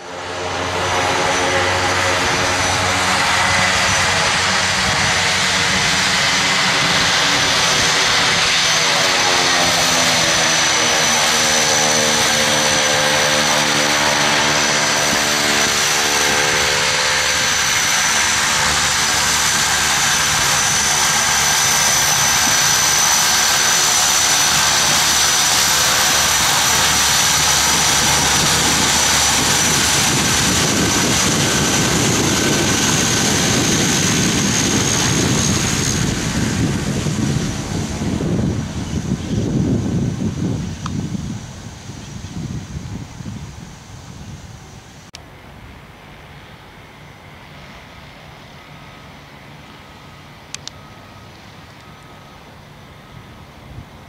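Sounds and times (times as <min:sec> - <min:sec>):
propeller drone: 0:00.0 - 0:54.0
turbine whine: 0:00.0 - 0:54.0.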